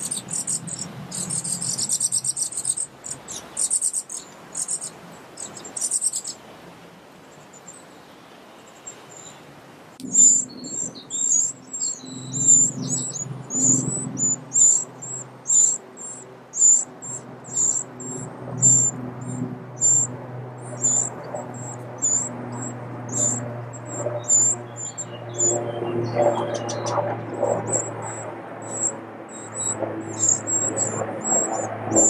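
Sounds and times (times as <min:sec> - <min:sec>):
nestlings peeping: 0:00.0 - 0:06.6, 0:07.3 - 0:32.0.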